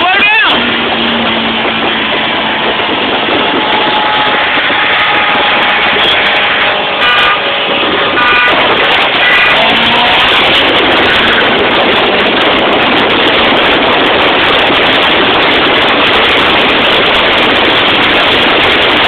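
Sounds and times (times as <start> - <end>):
vehicles accelerating hard: 0.0 - 19.0.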